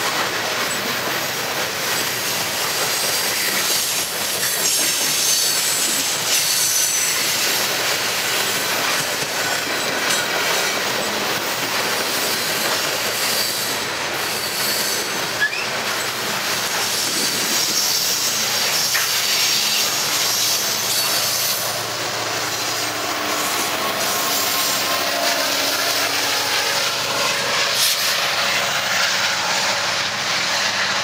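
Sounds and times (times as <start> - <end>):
diesel locomotive passing: 0.0 - 31.0
train wheels rushing on rails: 0.0 - 31.0.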